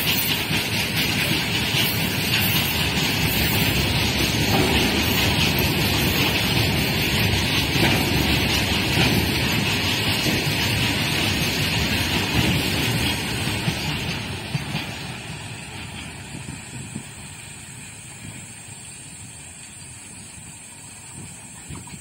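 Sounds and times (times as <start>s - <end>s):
train wheels knocking over track: 0.0s - 22.0s.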